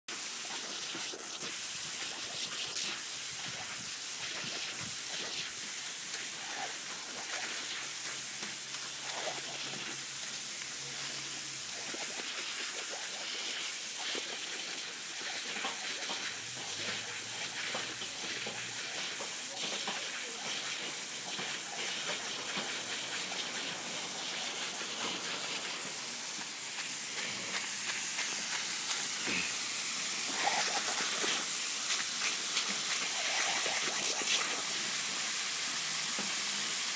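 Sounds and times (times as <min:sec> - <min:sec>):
garden hose spraying water: 0:00.1 - 0:36.9.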